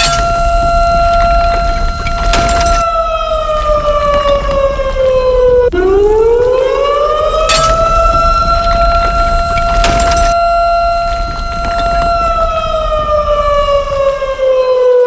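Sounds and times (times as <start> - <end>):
rushes of noise: 0.0 - 14.8
alarm siren wailing: 0.0 - 15.0.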